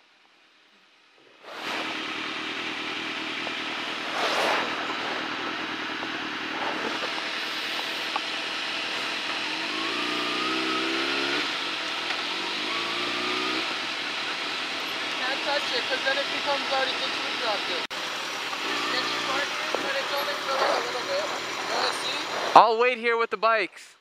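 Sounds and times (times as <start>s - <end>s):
motorcycle engine accelerating: 1.4s - 22.7s
wind and road noise: 1.4s - 22.7s.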